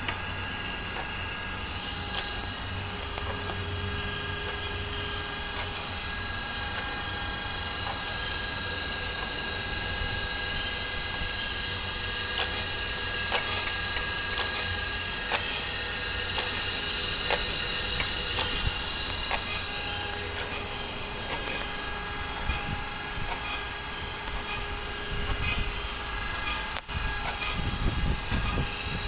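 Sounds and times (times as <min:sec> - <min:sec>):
grinder motor whine: 0:00.0 - 0:29.0.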